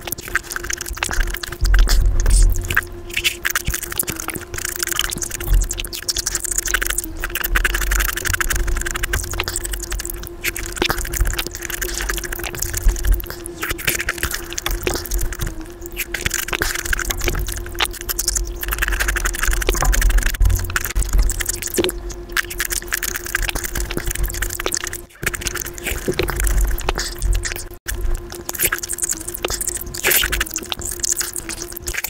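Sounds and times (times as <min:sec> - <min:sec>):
sped-up wet chewing and slurping: 0:00.0 - 0:32.0
steady hum: 0:00.0 - 0:32.0.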